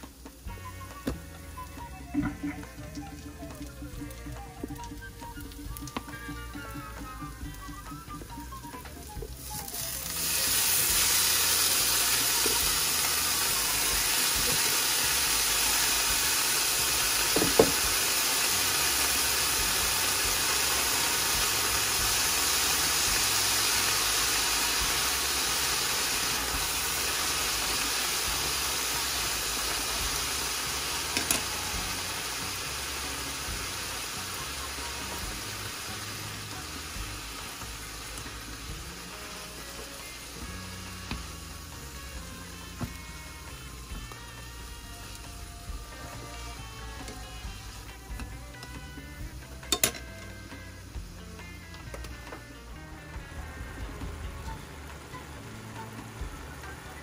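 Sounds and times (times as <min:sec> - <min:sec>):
spinach sizzling in a pan: 0:00.0 - 0:57.0.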